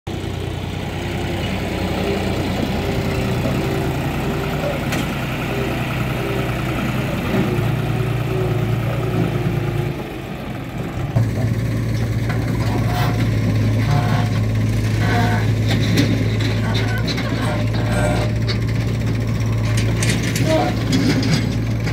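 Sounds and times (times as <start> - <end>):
diesel engines humming: 0.1 - 21.9.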